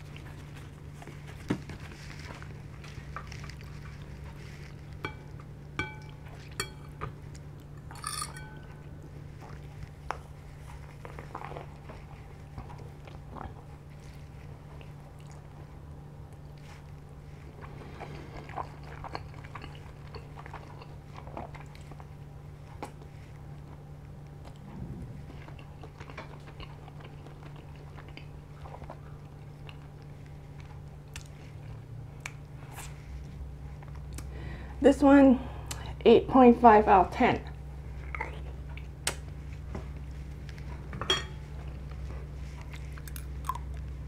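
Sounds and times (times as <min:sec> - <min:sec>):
chewing and biting food: 0:00.0 - 0:34.3, 0:37.9 - 0:44.0
steady low hum: 0:00.0 - 0:44.0.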